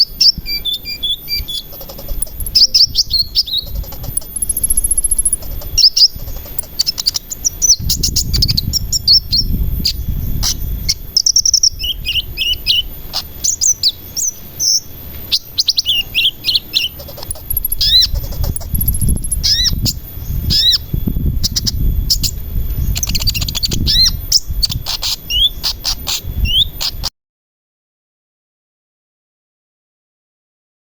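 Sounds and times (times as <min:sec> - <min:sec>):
bird chirping song: 0:00.0 - 0:27.1.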